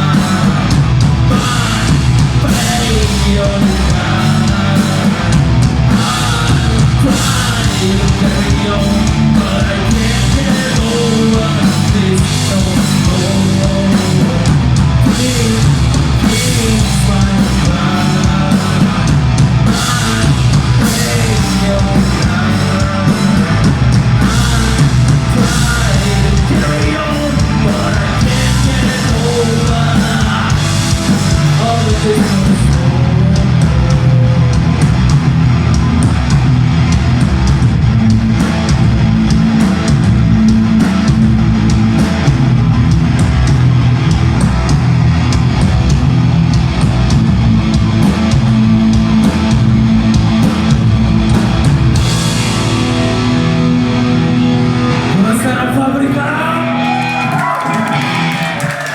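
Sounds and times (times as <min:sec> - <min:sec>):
heavy metal band playing: 0:00.0 - 0:58.9
yelled vocals: 0:00.0 - 0:58.9.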